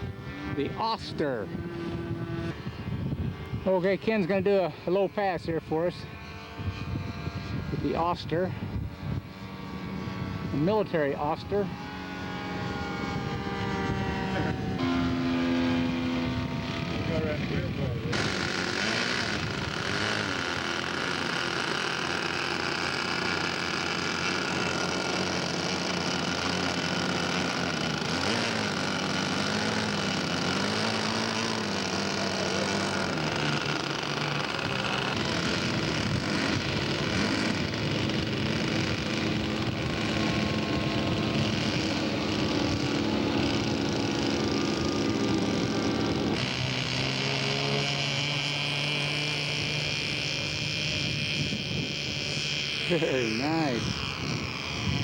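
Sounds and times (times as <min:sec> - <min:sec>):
model airplane engine: 0:00.0 - 0:55.0.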